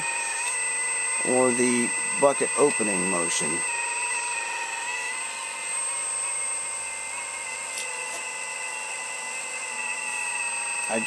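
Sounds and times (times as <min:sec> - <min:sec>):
hydraulic pump whine: 0:00.0 - 0:11.0.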